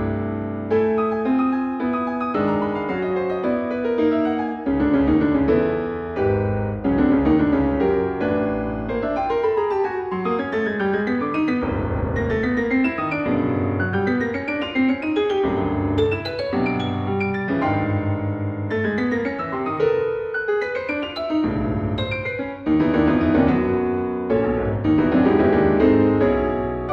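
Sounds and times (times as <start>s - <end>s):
solo piano piece: 0.0s - 26.9s.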